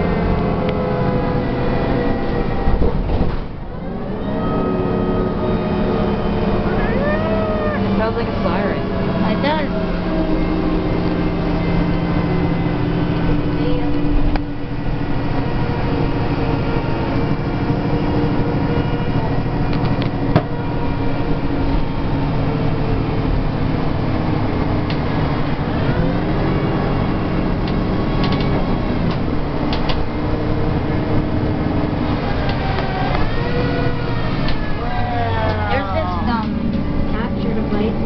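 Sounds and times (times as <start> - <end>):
bus engine drone: 0.0 - 38.0.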